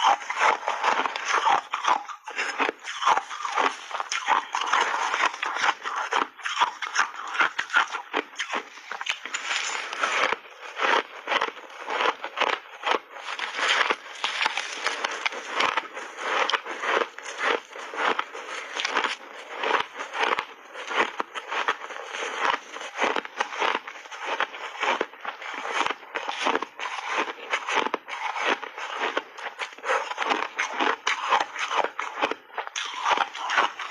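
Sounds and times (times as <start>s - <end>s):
ice being chewed: 0.0s - 33.9s.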